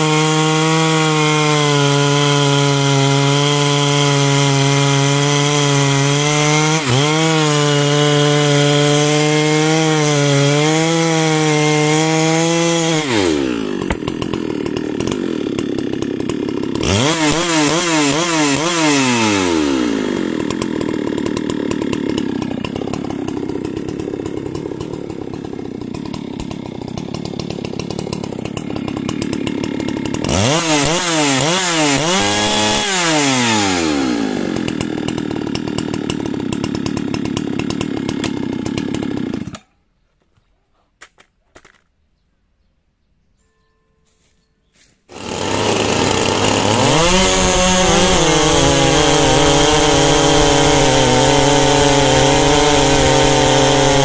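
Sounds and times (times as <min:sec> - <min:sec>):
chainsaw idling: 0:00.0 - 0:39.7, 0:45.1 - 0:54.0
chainsaw cutting log: 0:00.0 - 0:39.8, 0:41.0 - 0:41.9, 0:45.0 - 0:54.0.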